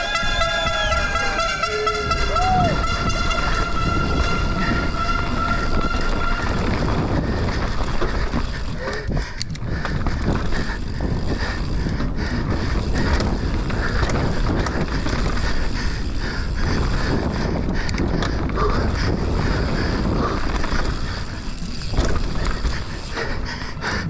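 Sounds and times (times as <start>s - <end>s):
bike chain and tyres rattling: 0.0s - 24.0s
wind buffeting microphone: 0.0s - 24.0s.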